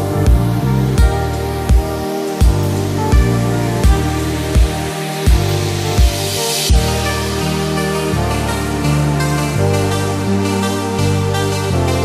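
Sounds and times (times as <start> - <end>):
held chords over low beat: 0.0 - 12.0.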